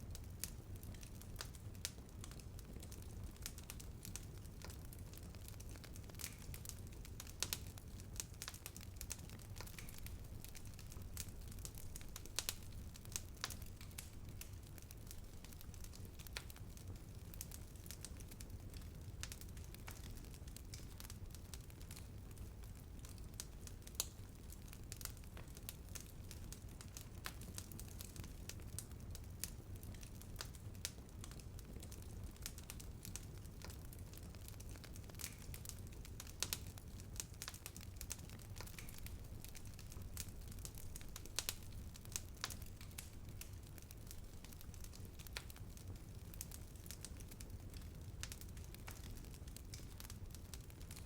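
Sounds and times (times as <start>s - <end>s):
low fire rumble: 0.0s - 51.0s
wood crackling and popping: 0.1s - 51.0s.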